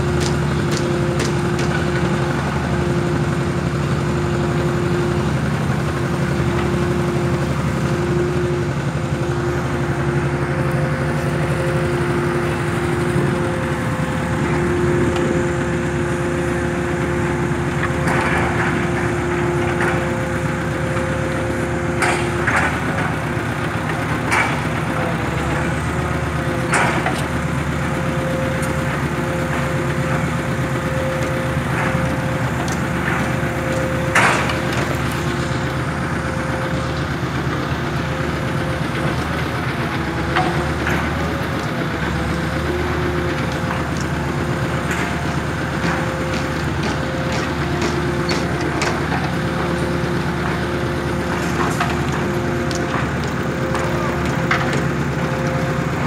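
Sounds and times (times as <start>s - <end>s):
hydraulic power unit whine: 0.0s - 56.0s.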